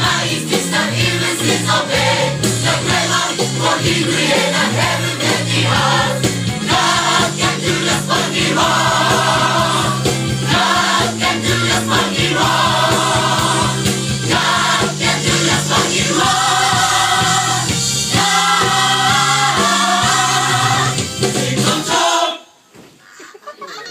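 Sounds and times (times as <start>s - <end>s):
gospel choir singing: 0.0s - 22.6s.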